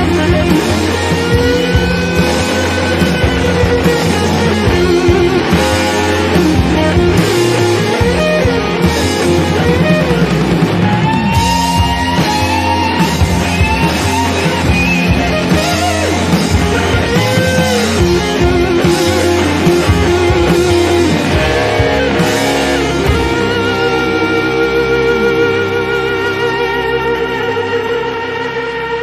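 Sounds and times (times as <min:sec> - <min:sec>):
rock music with lead guitar: 0:00.0 - 0:29.0.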